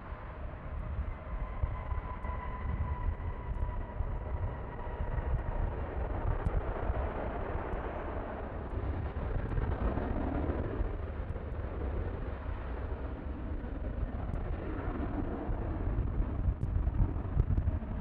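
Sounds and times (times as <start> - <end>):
jet engine rumble and hiss: 0.0 - 18.0.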